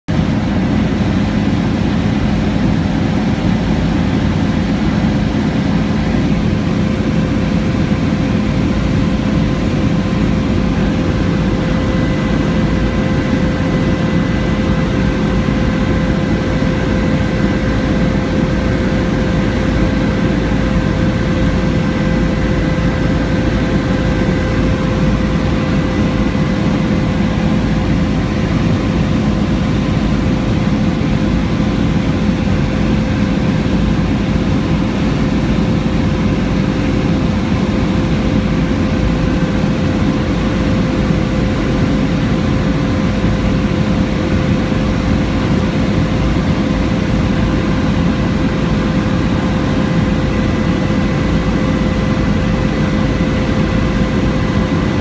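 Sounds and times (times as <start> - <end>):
faint steady whine: 0.1 - 55.0
helicopter engine and rotors drone: 0.1 - 55.0.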